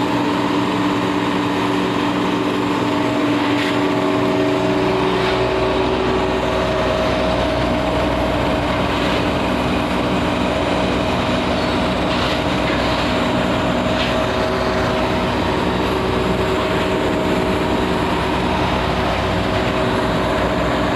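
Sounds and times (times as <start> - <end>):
lathe machine hum: 0.0 - 20.9.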